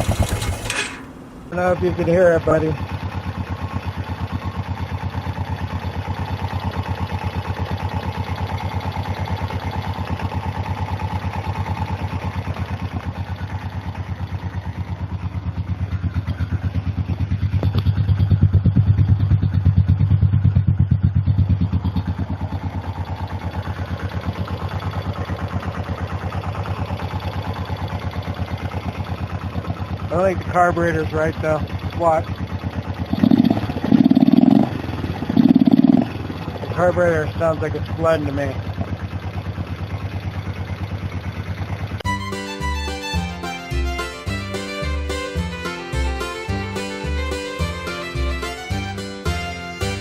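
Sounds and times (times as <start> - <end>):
single-cylinder engine running: 0.0 - 50.0.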